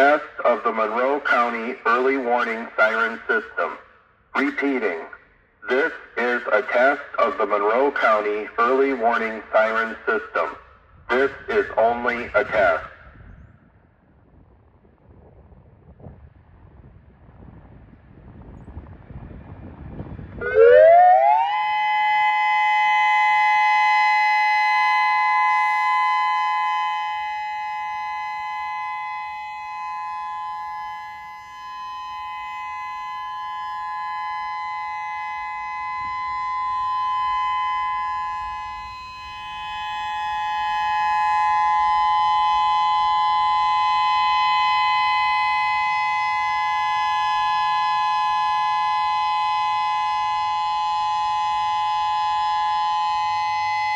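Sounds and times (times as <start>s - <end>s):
electronic warning siren: 0.0s - 13.1s, 20.3s - 53.9s.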